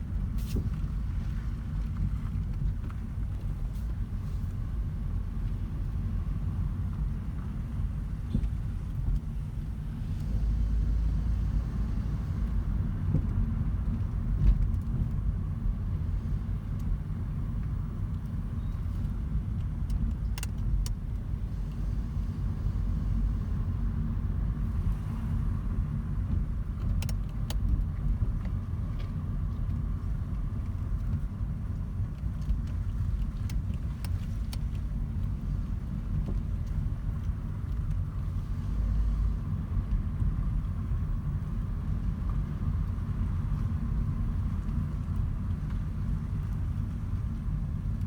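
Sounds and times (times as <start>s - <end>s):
car road rumble: 0.0s - 48.0s.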